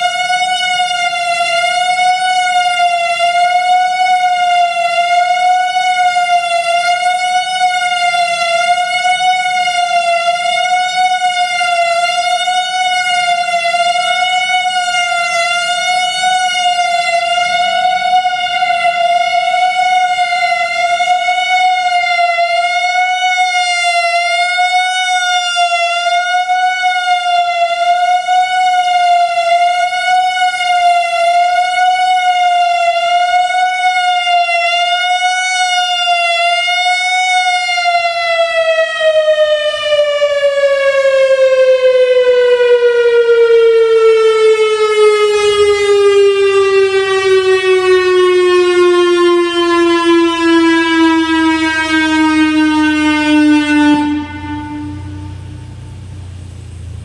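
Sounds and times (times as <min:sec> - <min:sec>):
storm siren wavering tone: 0:00.0 - 0:57.0.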